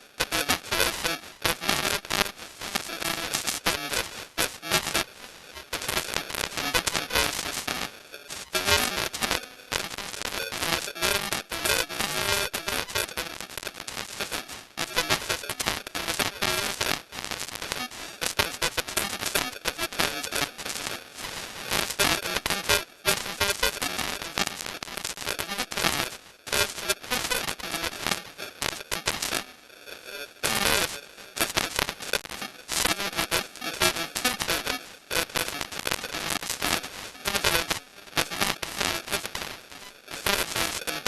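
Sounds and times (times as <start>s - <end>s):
crackling clicks and static: 0.0s - 41.0s.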